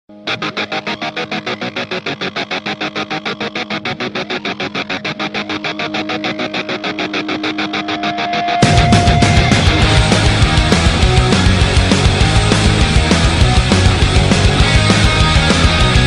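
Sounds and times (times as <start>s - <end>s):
held steady tones: 0.3s - 16.0s.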